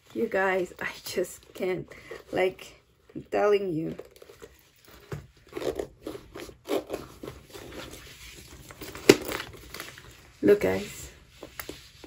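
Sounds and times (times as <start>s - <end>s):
hands rustling and scraping: 0.0s - 12.0s.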